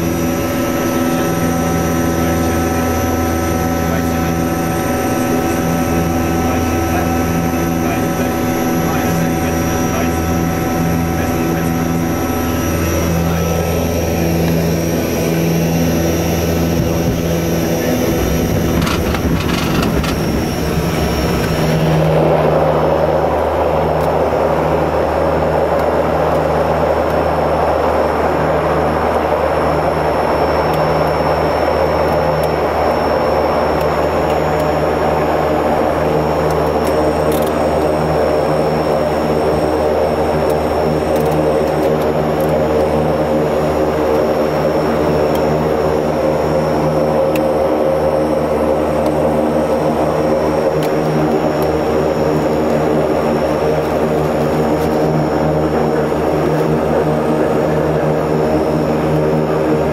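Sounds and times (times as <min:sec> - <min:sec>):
low propeller hum: 0:00.0 - 0:59.9
turboprop engines droning: 0:00.0 - 0:59.9.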